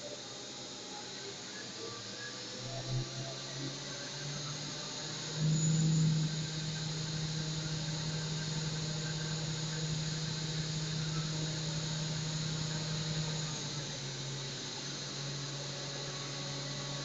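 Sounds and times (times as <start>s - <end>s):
milling machine cutting metal: 2.9s - 17.0s.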